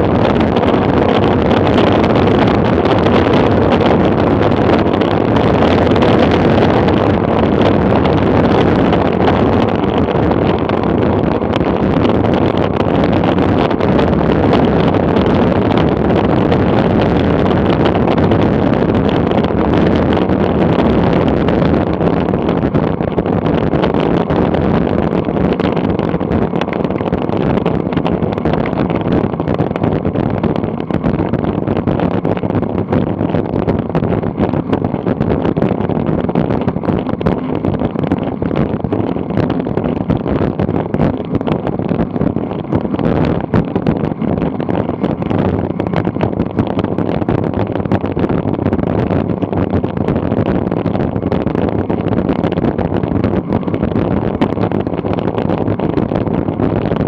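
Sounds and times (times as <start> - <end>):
bicycle tyre noise: 0.0 - 57.0
wind rushing on microphone: 0.0 - 57.0.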